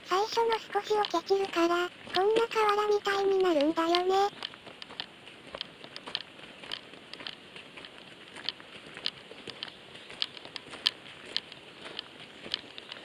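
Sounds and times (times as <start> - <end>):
footsteps on wet gravel: 0.1 - 13.0.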